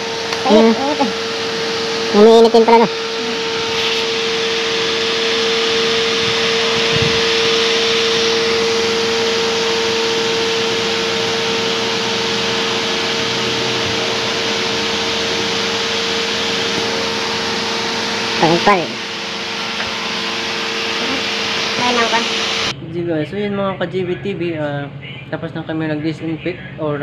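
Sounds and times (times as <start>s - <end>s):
electric fogger blower hissing: 0.0s - 22.8s.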